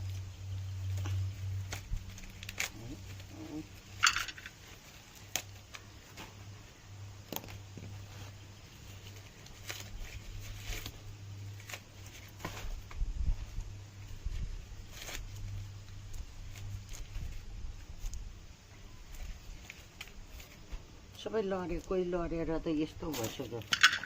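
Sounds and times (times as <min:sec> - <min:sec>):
dry maize leaves crackling: 0:00.0 - 0:24.0.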